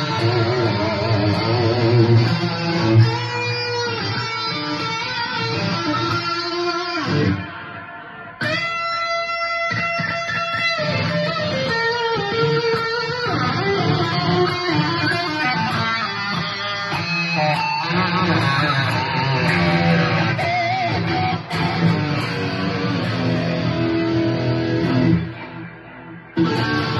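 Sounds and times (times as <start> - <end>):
electric guitar notes: 0.0 - 26.9.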